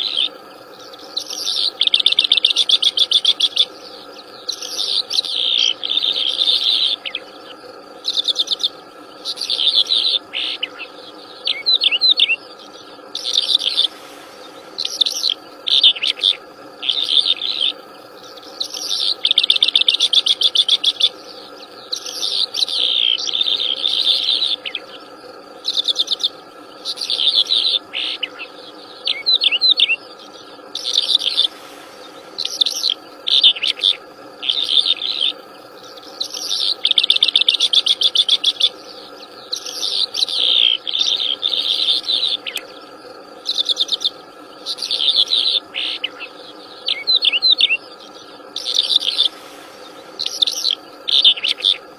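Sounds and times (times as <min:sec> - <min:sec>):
songbird chattering trills: 0:00.0 - 0:51.9
steady hum: 0:00.0 - 0:51.9.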